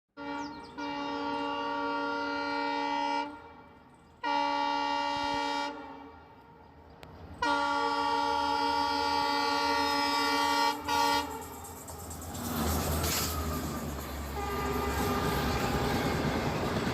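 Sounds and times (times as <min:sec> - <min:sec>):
train horn blasts: 0:00.2 - 0:06.8, 0:07.4 - 0:11.7, 0:13.0 - 0:16.6.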